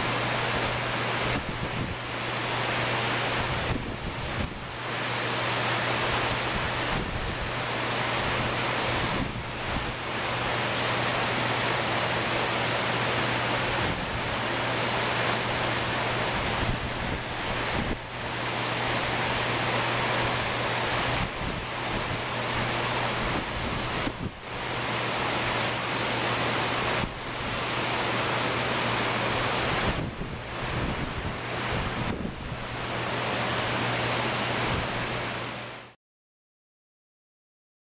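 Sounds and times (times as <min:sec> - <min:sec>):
wind on microphone: 0:00.0 - 0:33.2, 0:33.9 - 0:35.4
surf breaking on a beach: 0:00.0 - 0:35.2.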